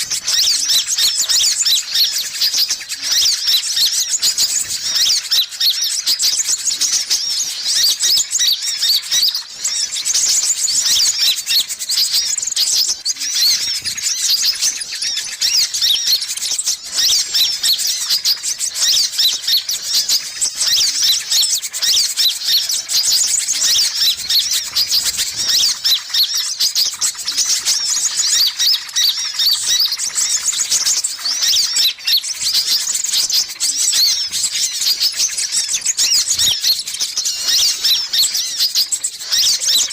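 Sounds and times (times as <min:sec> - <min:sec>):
sunbirds chattering and twittering: 0:00.0 - 0:39.9.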